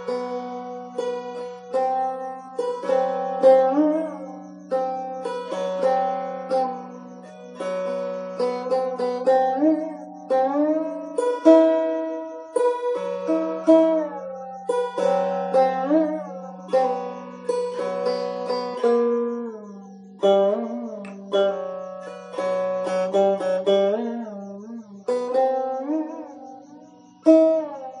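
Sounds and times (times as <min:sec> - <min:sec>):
plucked string melody: 0:00.0 - 0:28.0.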